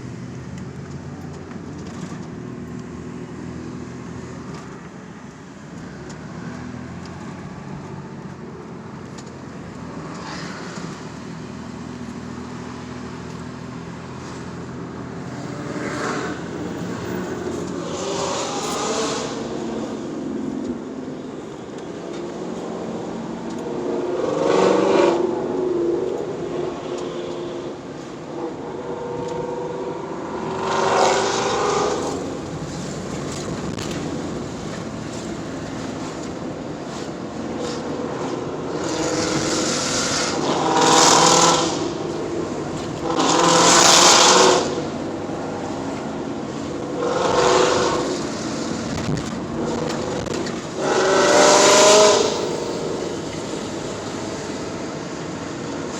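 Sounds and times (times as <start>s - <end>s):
background engine noise: 0.0s - 55.9s
car engines surging: 0.0s - 55.9s.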